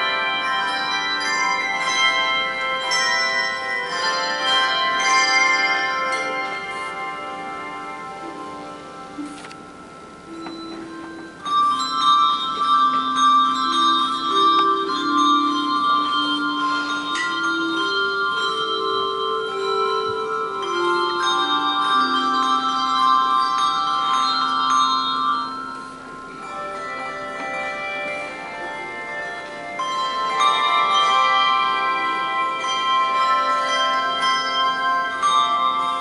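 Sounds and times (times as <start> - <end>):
handbell choir playing a hymn: 0.0 - 36.0.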